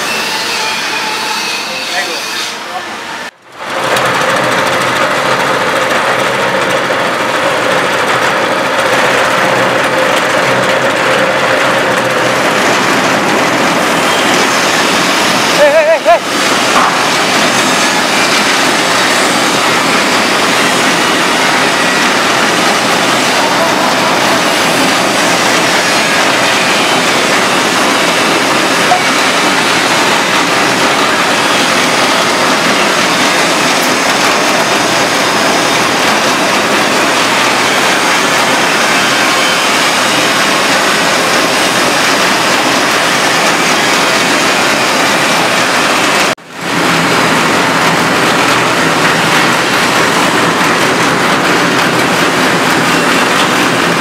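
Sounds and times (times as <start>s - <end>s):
compost sieving drum turning: 1.6s - 54.0s.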